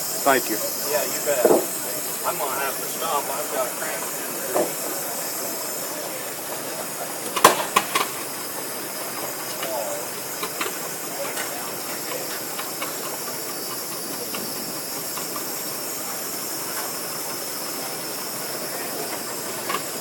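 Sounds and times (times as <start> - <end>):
steam engine hissing: 0.0 - 20.0.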